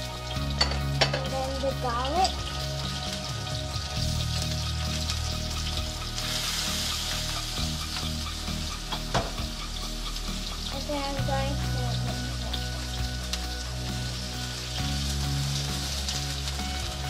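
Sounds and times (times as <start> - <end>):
prawns sizzling in hot oil: 0.0 - 17.0.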